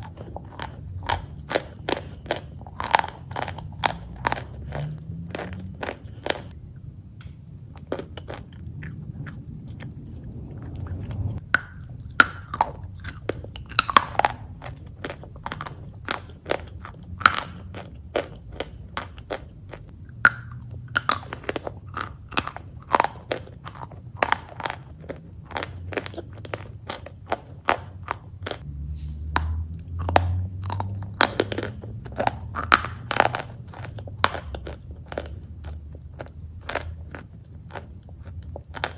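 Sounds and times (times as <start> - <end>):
crunching while chewing: 0.0 - 38.9.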